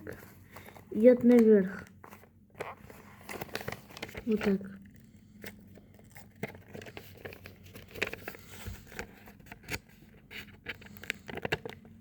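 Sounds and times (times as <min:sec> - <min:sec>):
paper crinkling and folding: 0:00.0 - 0:12.0.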